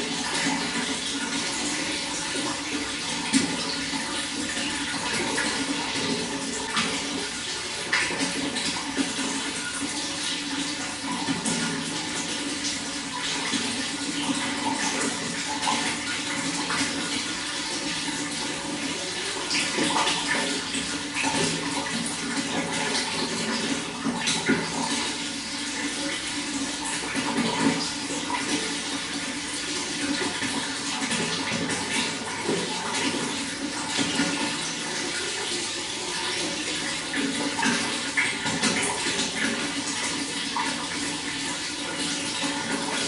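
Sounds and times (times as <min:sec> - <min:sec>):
water running and gurgling: 0:00.0 - 0:43.0.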